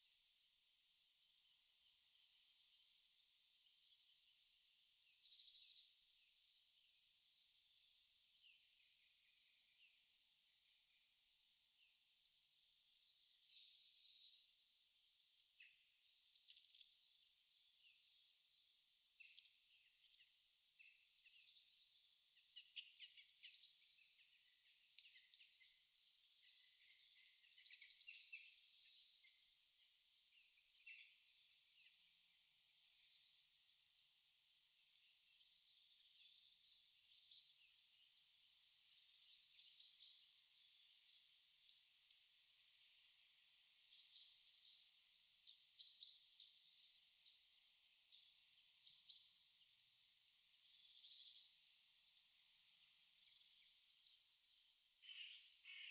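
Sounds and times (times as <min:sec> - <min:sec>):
soft high bird chirps: 0:00.0 - 0:55.9.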